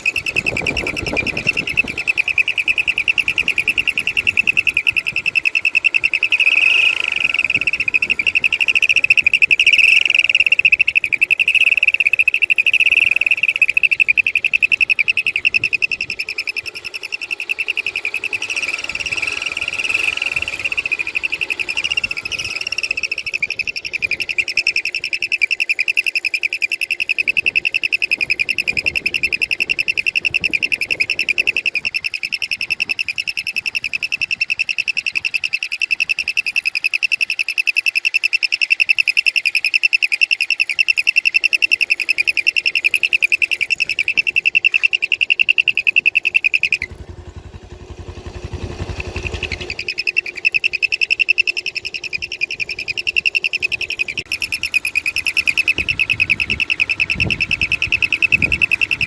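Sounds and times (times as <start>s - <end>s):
high-pitched trilling tone: 0.0s - 59.0s.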